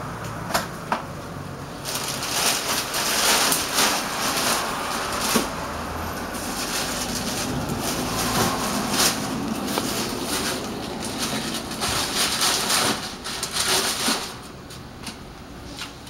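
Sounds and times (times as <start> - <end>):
plastic bags rustling: 1.6 - 16.0.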